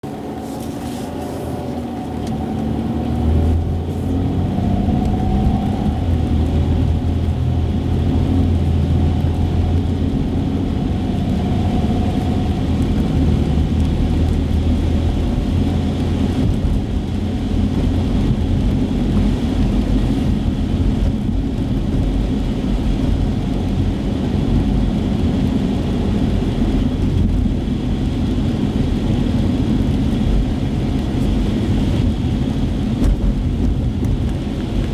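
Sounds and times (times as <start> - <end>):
car engine rumble: 0.0 - 34.9
tyres on wet road: 0.0 - 34.9.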